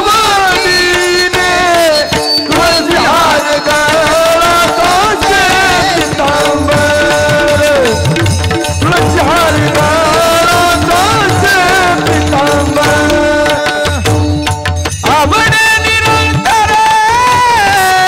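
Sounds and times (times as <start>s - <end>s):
hand drums playing: 0.0s - 18.0s
person singing devotional song: 0.0s - 18.0s.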